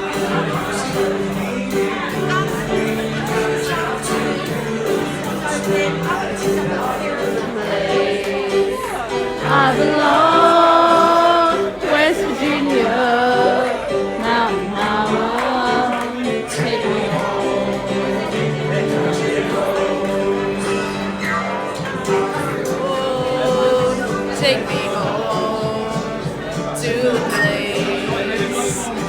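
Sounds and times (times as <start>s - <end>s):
group of people singing: 0.0s - 29.0s
piano accompaniment: 0.0s - 29.0s.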